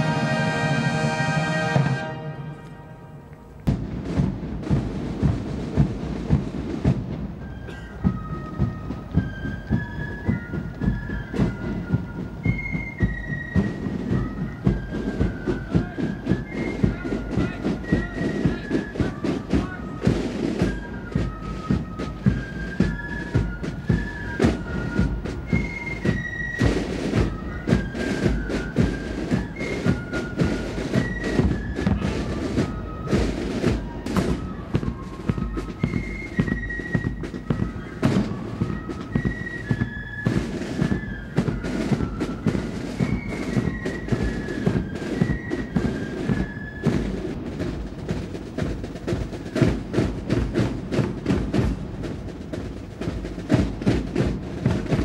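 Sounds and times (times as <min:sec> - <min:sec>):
rapid side-drum beating: 0:03.6 - 0:55.0.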